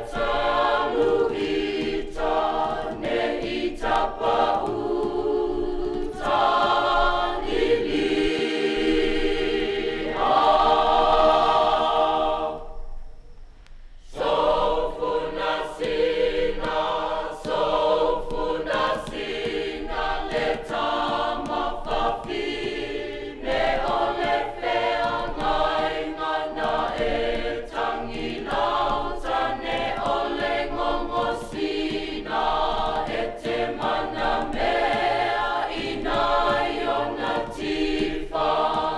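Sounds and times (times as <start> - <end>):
choir singing: 0.0 - 13.3, 14.0 - 38.9.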